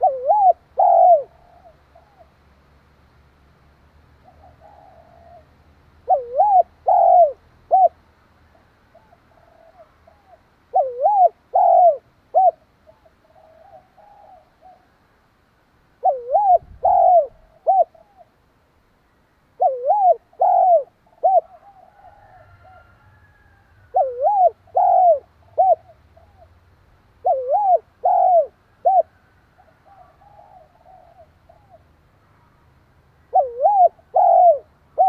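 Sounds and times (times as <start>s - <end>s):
dove cooing: 0.0s - 2.4s, 4.2s - 14.9s, 16.0s - 18.4s, 19.6s - 26.6s, 27.2s - 31.9s, 33.2s - 35.0s.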